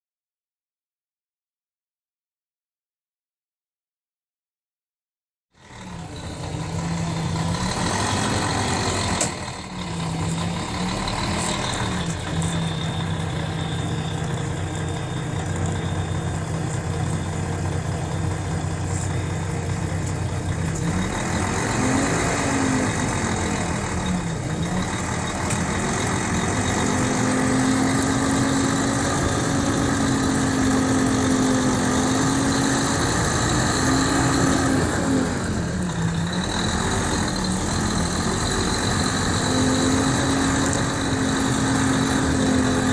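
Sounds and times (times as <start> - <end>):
diesel engine revving: 5.6 - 42.9.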